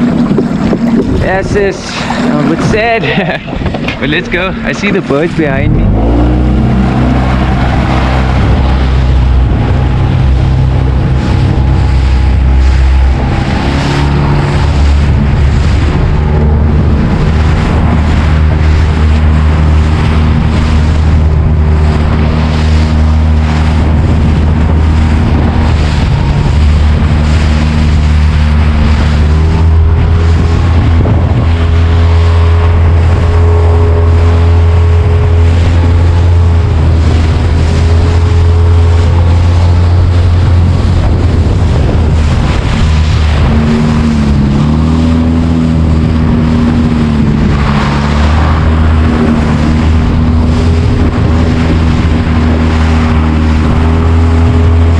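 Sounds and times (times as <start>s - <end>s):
outboard motor humming: 0.0s - 54.9s.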